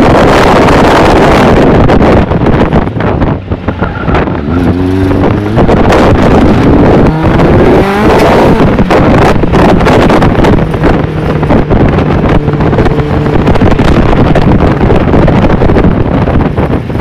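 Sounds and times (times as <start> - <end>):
buggy engine running hard: 0.0 - 17.0
wind noise on microphone: 0.0 - 17.0.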